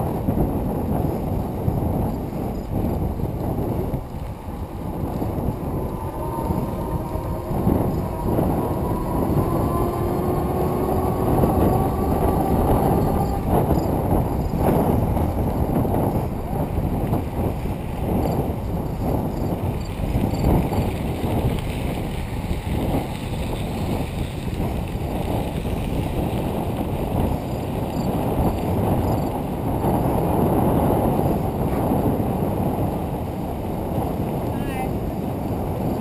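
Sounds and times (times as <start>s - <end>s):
bicycle tyres rumbling on gravel: 0.0s - 36.0s
wind buffeting microphone: 0.0s - 36.0s.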